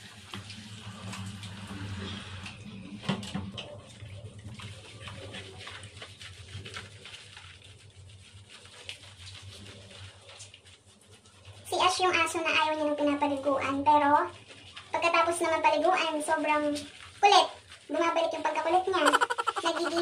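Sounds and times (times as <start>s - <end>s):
wet rubbing and squishing: 3.8s - 20.0s.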